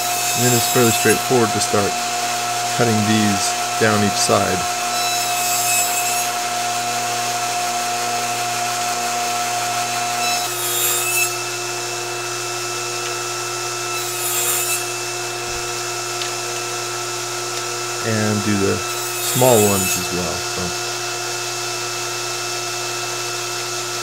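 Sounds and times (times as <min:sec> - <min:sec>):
saw cutting wooden blocks: 0:00.0 - 0:20.9
table saw running: 0:00.0 - 0:24.0.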